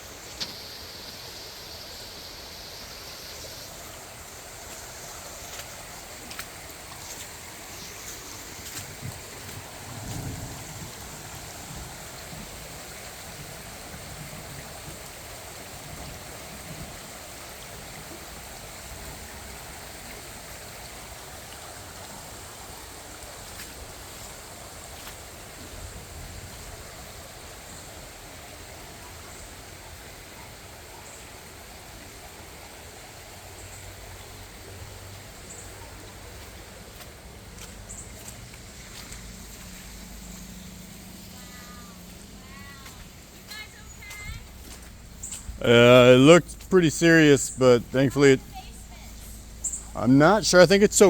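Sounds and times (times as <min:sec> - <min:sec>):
floodwater rushing: 0:00.0 - 0:51.0.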